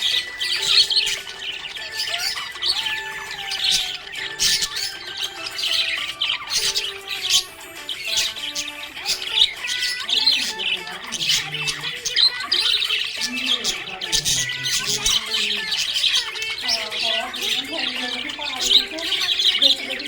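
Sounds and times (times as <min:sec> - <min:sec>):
parrots chirping and squawking: 0:00.0 - 0:20.0
quiet background music: 0:00.0 - 0:20.0.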